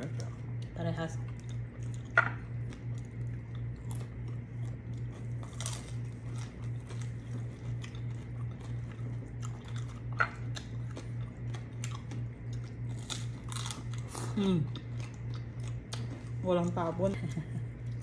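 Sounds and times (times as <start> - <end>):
chewing crunchy fried food: 0.0 - 18.0
steady low hum: 0.0 - 18.0.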